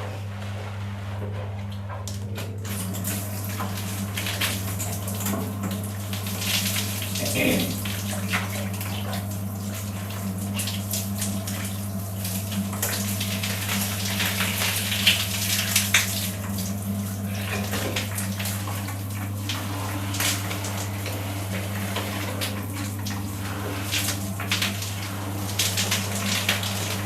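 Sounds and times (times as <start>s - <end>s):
water running and splashing: 2.7s - 27.0s.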